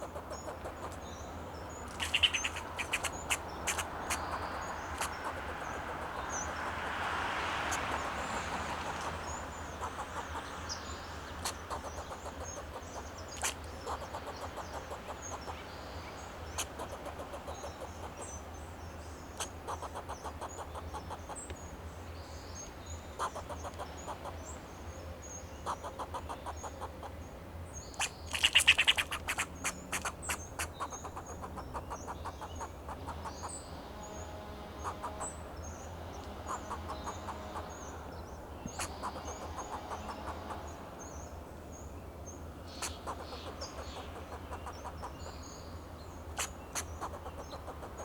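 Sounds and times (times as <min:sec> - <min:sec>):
small bird chirps: 0:00.0 - 0:06.8, 0:07.7 - 0:24.6, 0:25.2 - 0:27.2, 0:27.8 - 0:48.0
squirrel barking alarm calls: 0:00.0 - 0:06.9, 0:07.7 - 0:21.5, 0:22.5 - 0:24.6, 0:25.3 - 0:41.4, 0:42.7 - 0:48.0.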